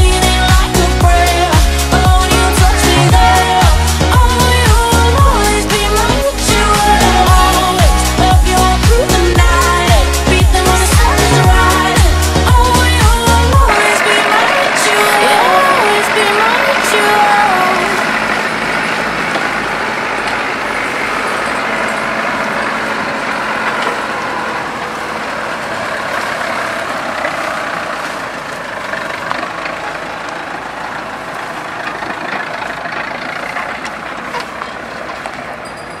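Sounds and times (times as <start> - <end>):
combine harvester diesel engine: 0.0 - 36.0
tractor engine running: 0.0 - 36.0.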